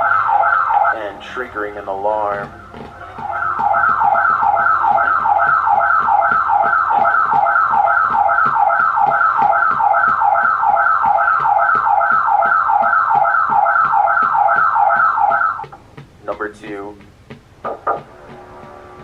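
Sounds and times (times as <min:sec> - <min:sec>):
security alarm siren: 0:00.0 - 0:16.4, 0:17.0 - 0:19.0.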